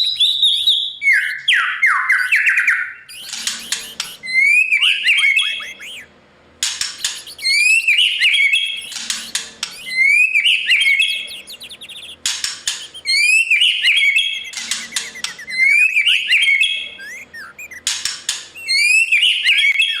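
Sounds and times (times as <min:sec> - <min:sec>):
bird singing whistled phrases: 0:00.0 - 0:06.1, 0:07.0 - 0:20.0.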